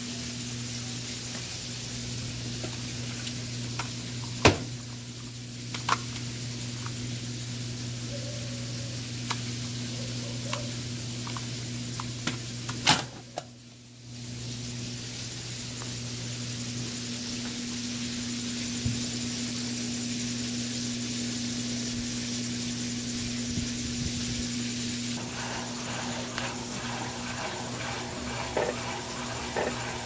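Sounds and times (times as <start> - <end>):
washing machine hum: 0.0 - 30.0.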